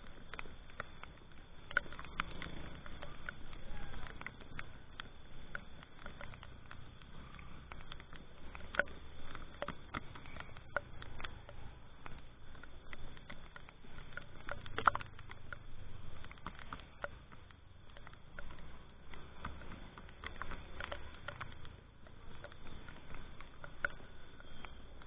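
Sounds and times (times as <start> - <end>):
raindrops tapping on microphone: 0.0 - 25.0.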